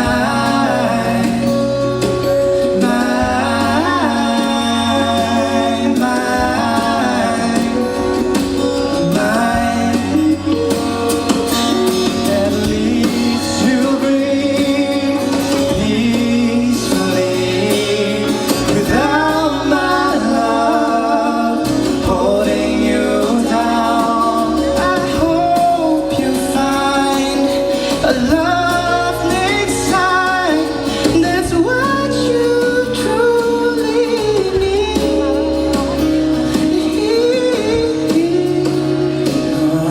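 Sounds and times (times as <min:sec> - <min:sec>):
guitar: 0:00.0 - 0:39.9
person singing: 0:00.0 - 0:39.9
steady low bass: 0:00.0 - 0:39.9.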